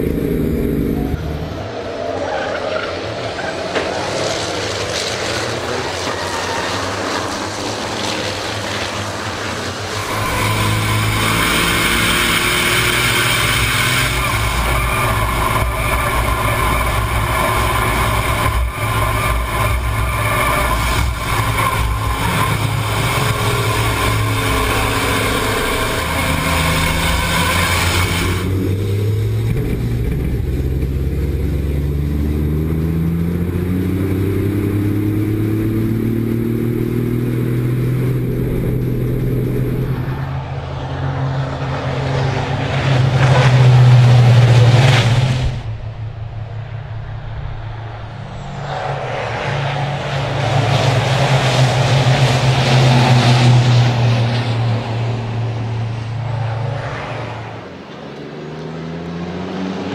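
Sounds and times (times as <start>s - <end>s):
diesel truck engines running: 0.0s - 59.6s
road noise: 0.0s - 59.9s.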